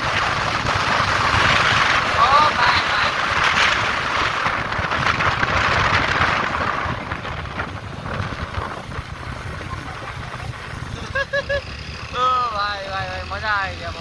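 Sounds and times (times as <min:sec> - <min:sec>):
motorcycle engine rumble: 0:00.0 - 0:14.0
wind rushing over microphone: 0:00.0 - 0:14.0.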